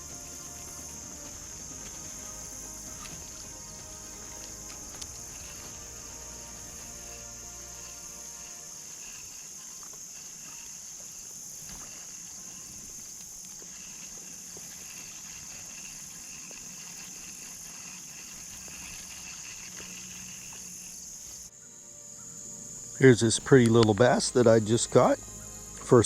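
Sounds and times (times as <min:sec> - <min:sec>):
crickets high-pitched trill: 0:00.0 - 0:26.0
lower pulsing insect chirp: 0:00.0 - 0:26.0.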